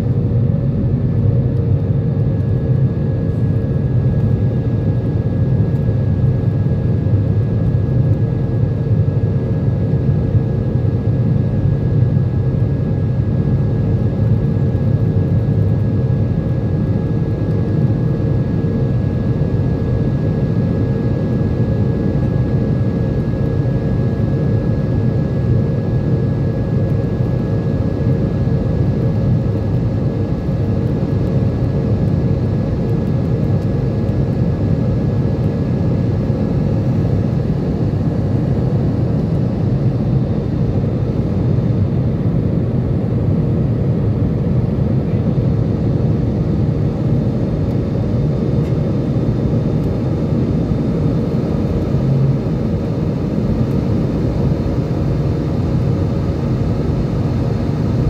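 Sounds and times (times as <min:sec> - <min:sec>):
faint engine whine: 0:00.0 - 0:58.0
jet engine deep rumble: 0:00.0 - 0:58.0.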